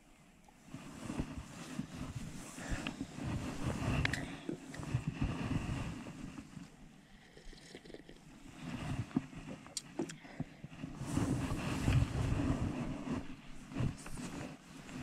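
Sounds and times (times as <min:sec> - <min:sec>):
wind rumble on microphone: 0:00.6 - 0:06.8, 0:08.4 - 0:15.0.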